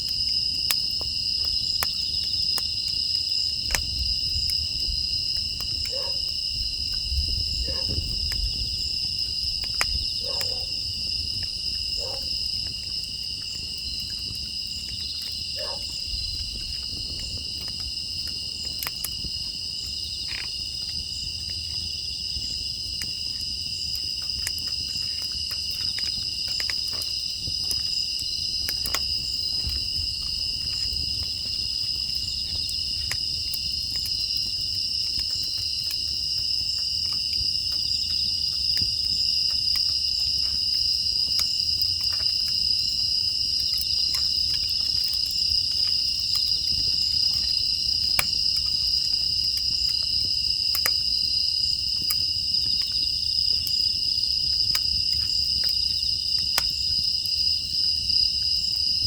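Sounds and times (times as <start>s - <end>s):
crickets and grass insects chirping: 0.0s - 59.0s
firewood crackling: 0.0s - 59.0s
low rumble of fire: 0.0s - 59.0s.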